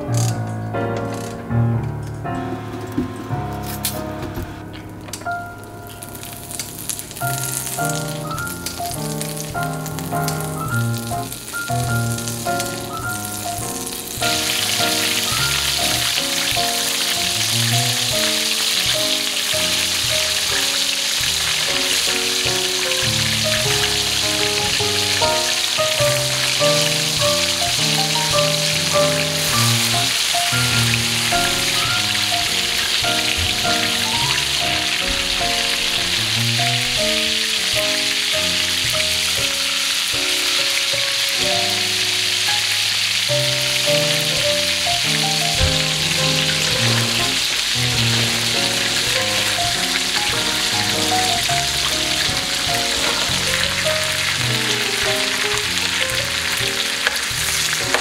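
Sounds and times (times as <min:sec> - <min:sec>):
meatballs sizzling in pan: 0:05.9 - 0:58.0.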